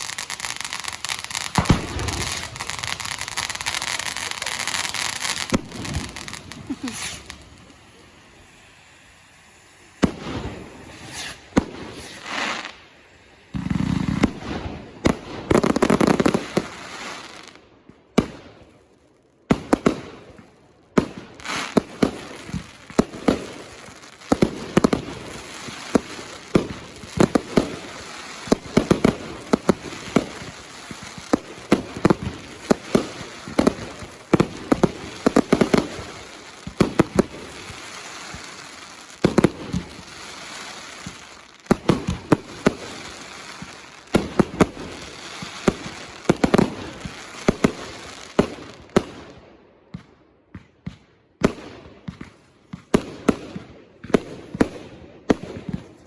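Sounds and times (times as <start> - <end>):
fireworks bangs: 0.0 - 18.7, 19.4 - 56.0.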